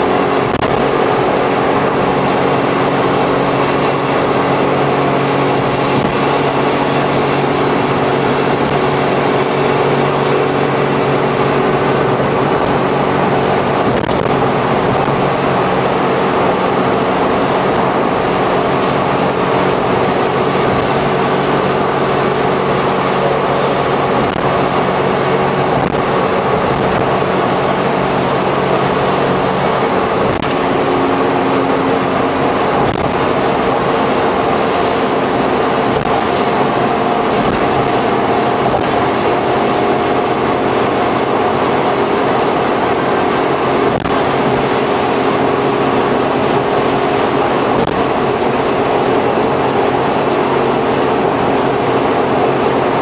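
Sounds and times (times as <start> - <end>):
tyres on wet road: 0.0 - 53.0
van engine droning: 0.0 - 53.0.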